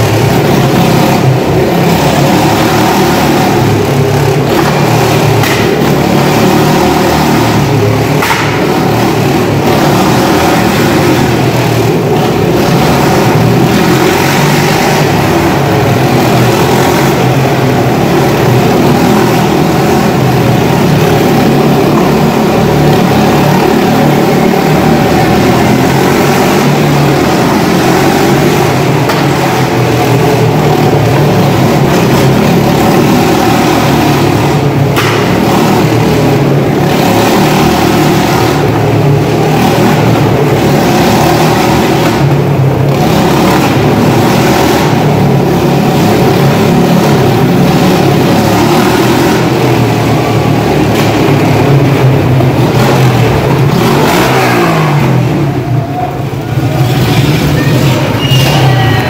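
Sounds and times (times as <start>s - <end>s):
motorcycle engines droning: 0.0s - 59.0s.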